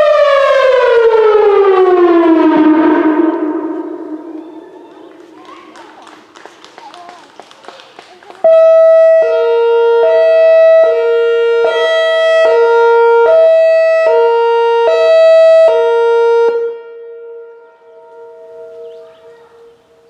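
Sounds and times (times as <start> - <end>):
hi-lo warning siren: 0.0 - 6.3, 8.4 - 20.0.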